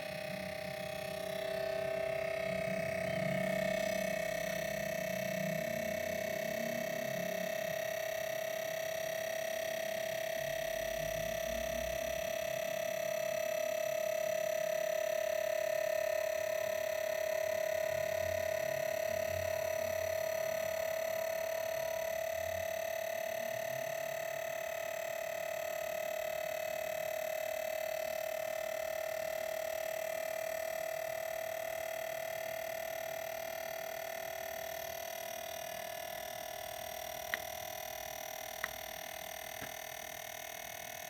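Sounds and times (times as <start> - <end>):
projector whining: 0.0 - 41.0.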